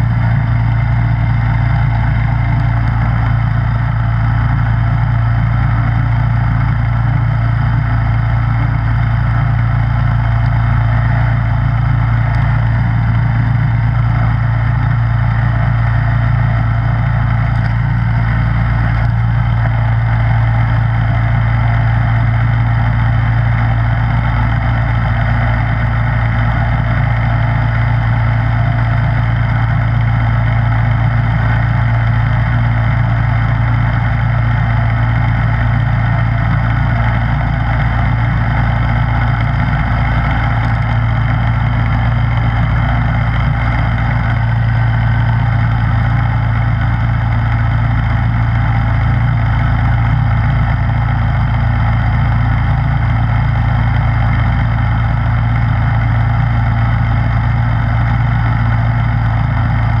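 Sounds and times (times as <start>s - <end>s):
snowblower running: 0.0s - 60.0s.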